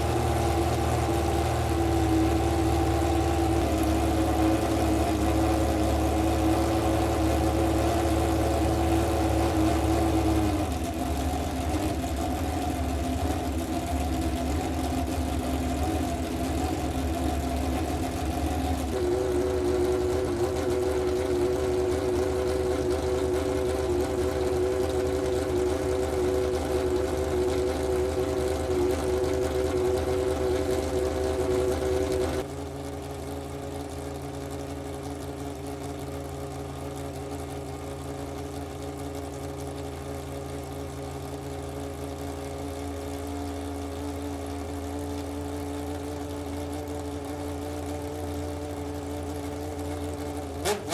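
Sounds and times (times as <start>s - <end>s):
race car engine idling: 0.0s - 50.9s.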